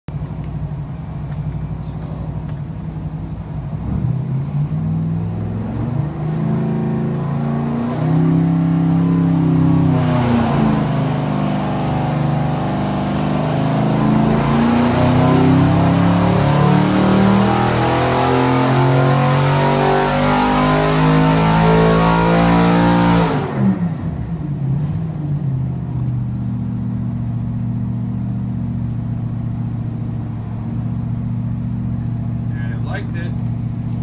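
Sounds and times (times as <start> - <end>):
engine running under load: 0.1 - 19.6, 23.4 - 34.0.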